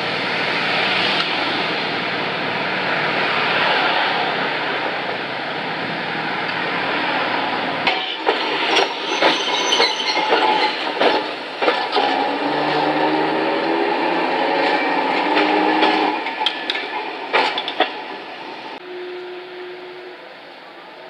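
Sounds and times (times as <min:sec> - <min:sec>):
tram wheels clacking on rail joints: 0:00.0 - 0:18.8
rushing street noise: 0:00.0 - 0:21.0.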